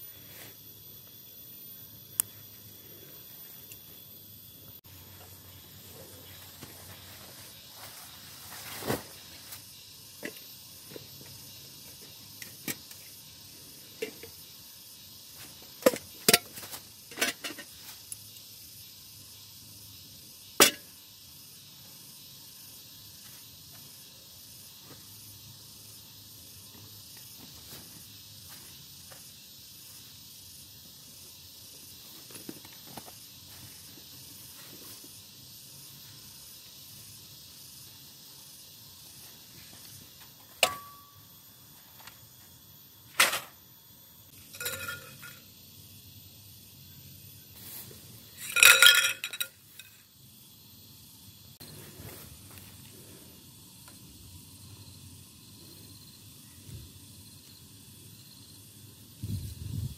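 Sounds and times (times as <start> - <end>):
faint hiss: 0.0 - 59.9.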